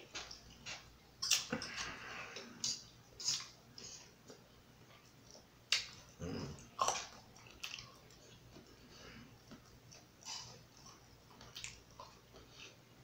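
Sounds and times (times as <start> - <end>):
chewing and mouth smacks: 0.0 - 12.8.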